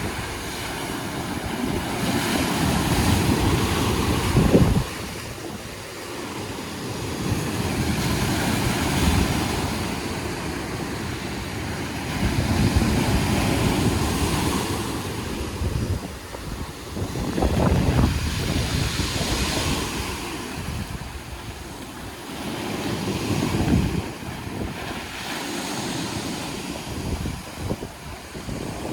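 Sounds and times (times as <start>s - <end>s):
sea waves washing onto shore: 0.0s - 28.9s
wind buffeting microphone: 0.0s - 28.9s.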